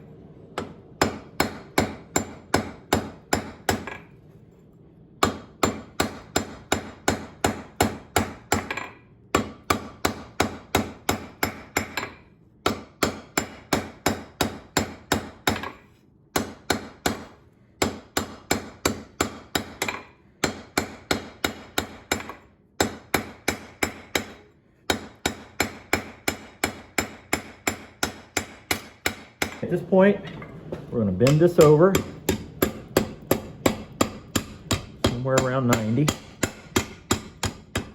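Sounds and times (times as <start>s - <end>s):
hammer forging steel on anvil: 0.4s - 4.2s, 5.2s - 37.9s.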